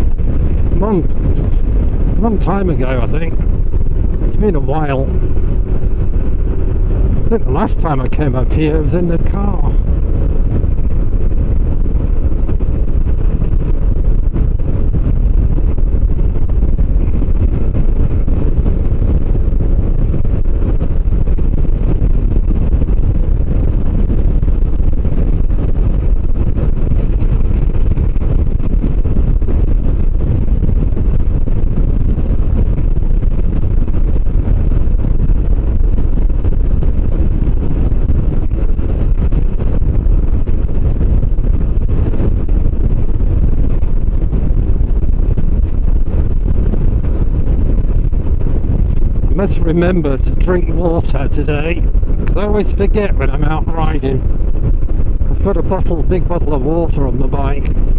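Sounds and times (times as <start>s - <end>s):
motorcycle engine running: 0.0s - 49.3s
wind rushing over microphone: 0.0s - 57.9s.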